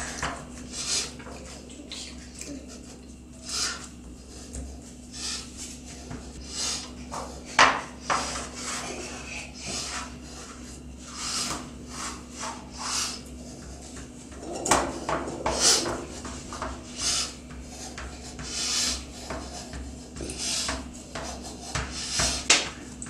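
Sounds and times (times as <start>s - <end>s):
gloved hands rubbing pastry: 0.0s - 23.0s.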